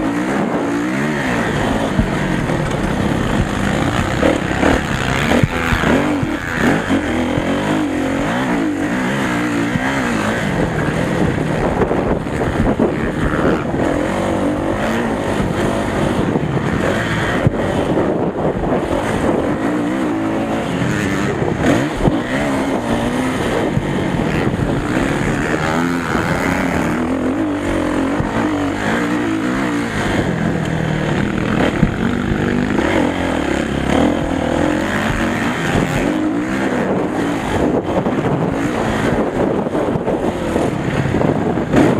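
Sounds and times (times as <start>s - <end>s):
motocross engines revving: 0.0s - 41.9s.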